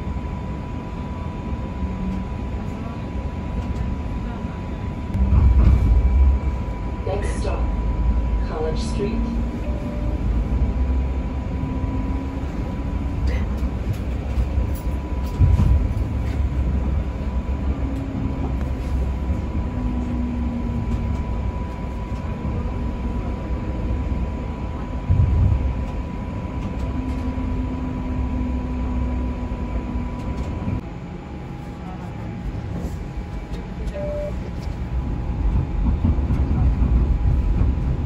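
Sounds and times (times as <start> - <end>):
streetcar rumbling on rails: 0.0 - 38.0.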